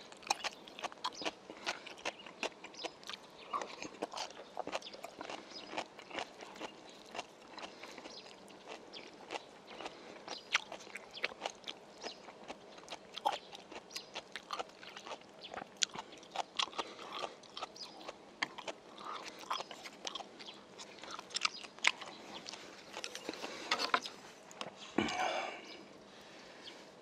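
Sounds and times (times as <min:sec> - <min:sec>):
close-up chewing: 0:00.0 - 0:26.4.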